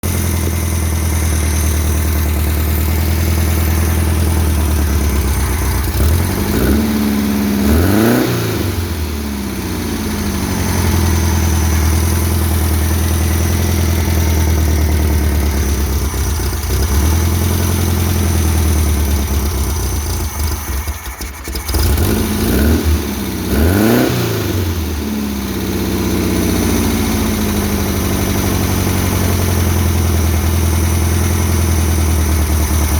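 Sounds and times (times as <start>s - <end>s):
dune buggy engine idling and revving: 0.0s - 32.9s.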